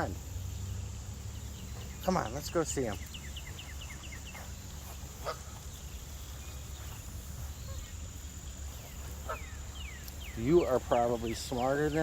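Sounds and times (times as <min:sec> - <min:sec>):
bird chirping: 0:00.0 - 0:12.0
high insect drone: 0:00.0 - 0:12.0.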